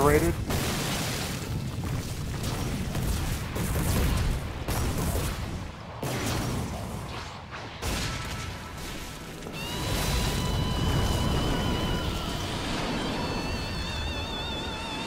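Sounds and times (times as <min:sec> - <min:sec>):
explosions and impacts: 0:00.0 - 0:13.3.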